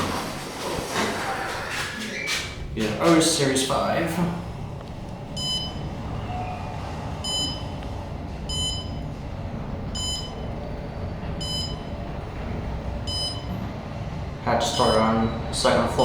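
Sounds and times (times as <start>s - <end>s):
steady low hum: 2.5s - 16.0s.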